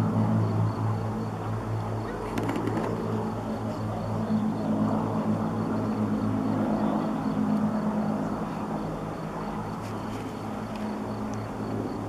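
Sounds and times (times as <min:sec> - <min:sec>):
aircraft piston engines droning: 0:00.0 - 0:12.0.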